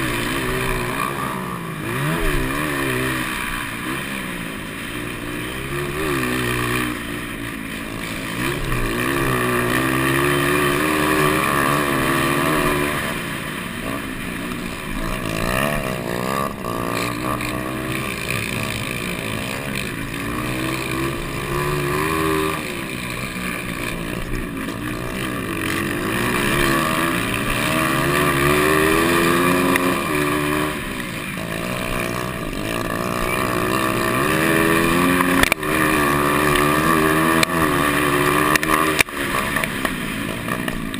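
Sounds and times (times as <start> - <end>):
motocross bikes racing: 0.0 - 40.9.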